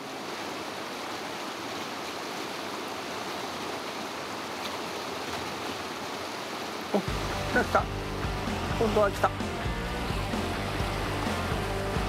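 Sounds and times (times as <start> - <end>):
river running over rocks: 0.0 - 12.0.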